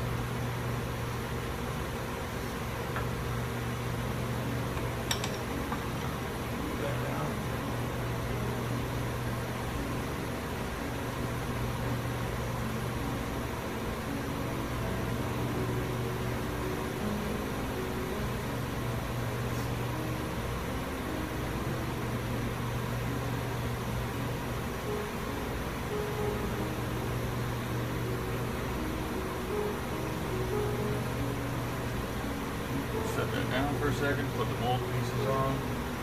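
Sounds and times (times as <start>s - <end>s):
even hiss: 0.0s - 36.0s
machine hum: 0.0s - 36.0s.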